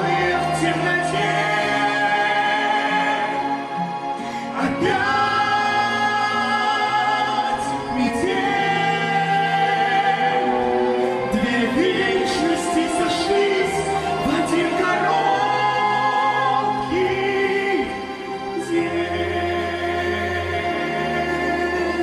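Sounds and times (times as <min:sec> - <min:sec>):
duet singing with instrumental backing: 0:00.0 - 0:22.0.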